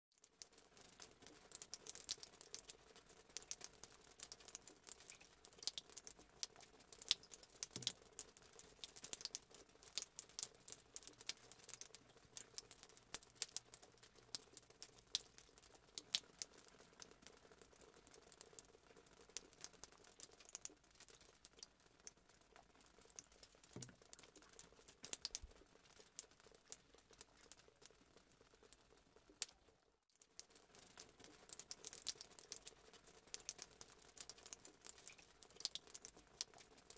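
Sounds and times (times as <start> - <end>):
faint small clicks and crackles: 0.1 - 36.9.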